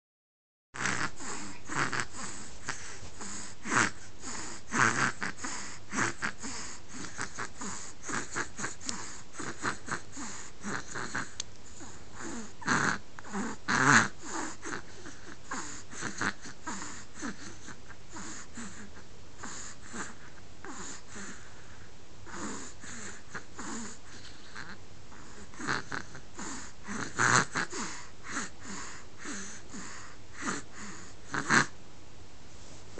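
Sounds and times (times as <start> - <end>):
wheezy snoring: 0.8 - 31.8.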